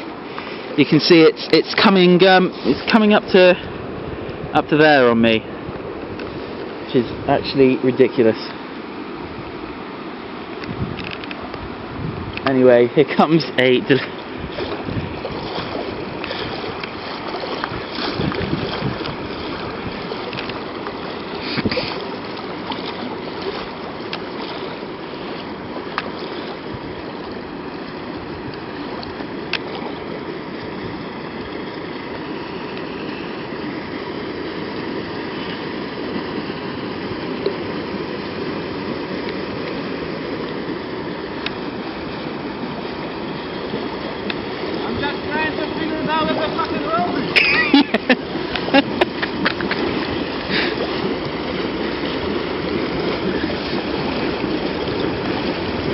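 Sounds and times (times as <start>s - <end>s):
floodwater rushing: 0.0s - 55.9s
water splashes: 0.0s - 55.9s.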